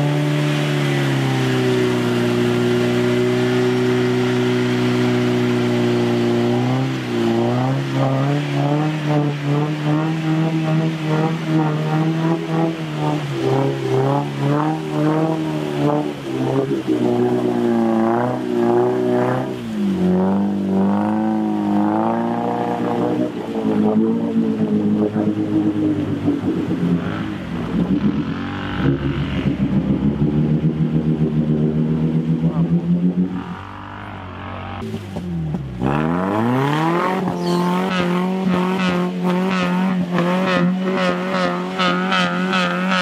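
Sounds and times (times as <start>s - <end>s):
car engine revving: 0.0s - 43.0s
wheels splashing through water: 0.0s - 43.0s.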